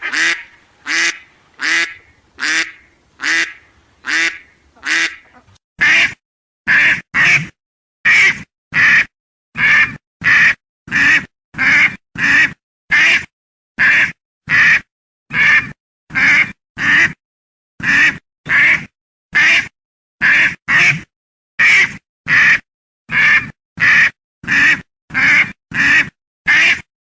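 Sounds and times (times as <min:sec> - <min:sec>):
duck quacking: 0:00.0 - 0:17.2, 0:17.8 - 0:21.0, 0:21.6 - 0:26.9.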